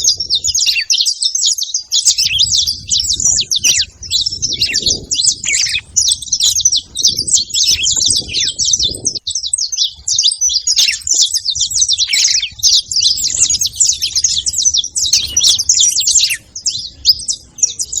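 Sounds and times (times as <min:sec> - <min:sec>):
finches chirping and trilling: 0:00.0 - 0:18.0.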